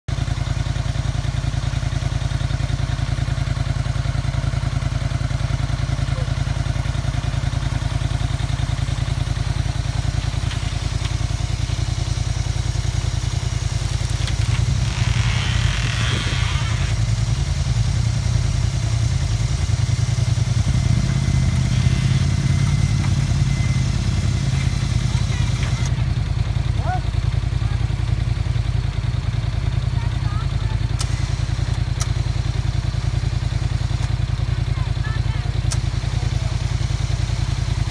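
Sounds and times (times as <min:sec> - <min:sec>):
atv engine idling: 0:00.1 - 0:37.9.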